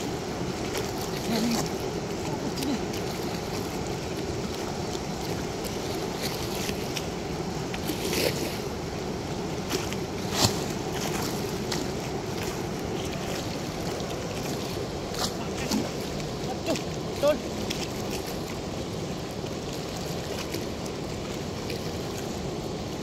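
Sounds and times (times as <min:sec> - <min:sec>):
water rushing through sluice gate: 0:00.0 - 0:23.0.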